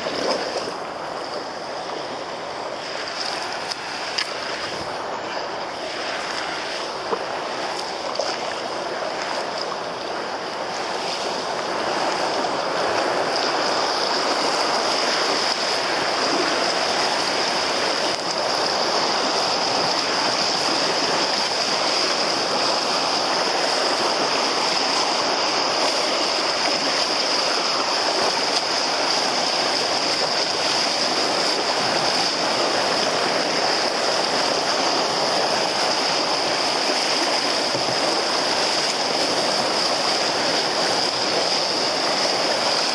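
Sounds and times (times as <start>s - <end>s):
river water rushing around hull: 0.0s - 42.9s.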